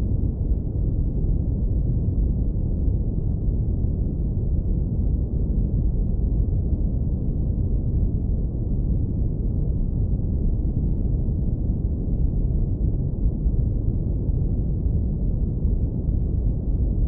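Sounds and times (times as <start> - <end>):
deep brown noise rumble: 0.0 - 17.0.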